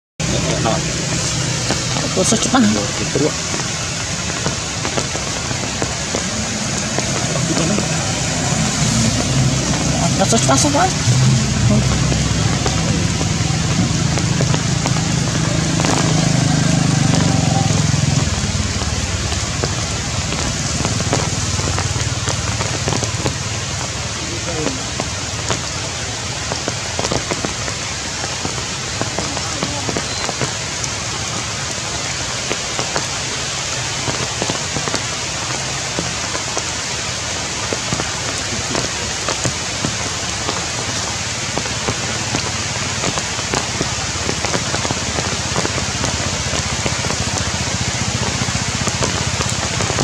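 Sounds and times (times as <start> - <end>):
heavy rain on leaves: 0.2 - 50.0.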